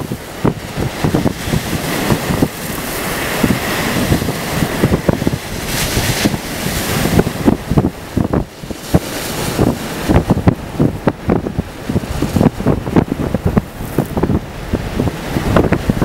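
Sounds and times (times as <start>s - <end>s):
waves splashing against rocks: 0.0s - 16.0s
wind buffeting microphone: 0.0s - 16.0s.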